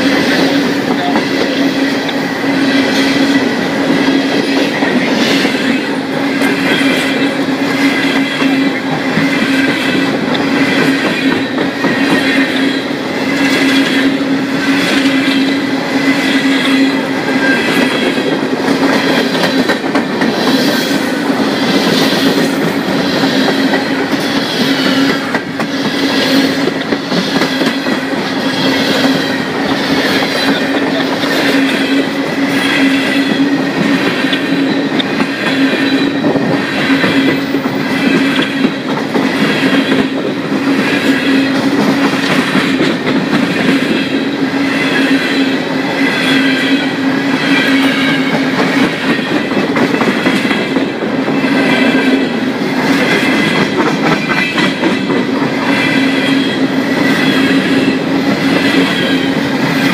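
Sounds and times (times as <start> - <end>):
train wheels clacking on rails: 0.0 - 59.9.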